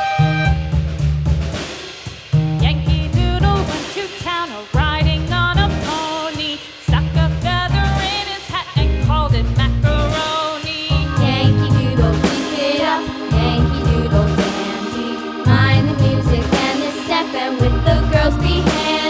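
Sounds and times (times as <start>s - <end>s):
song with drum and bass beat: 0.0s - 19.0s.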